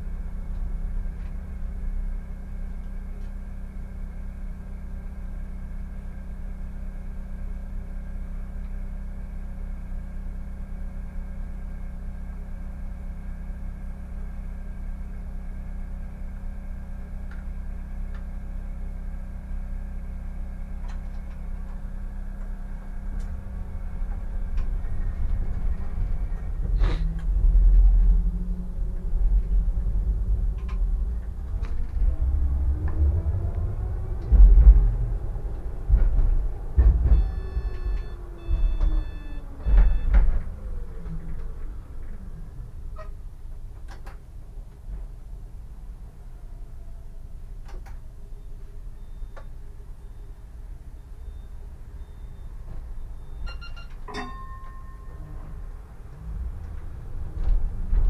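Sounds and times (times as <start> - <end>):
tram rumble and hum: 0.0 - 58.0.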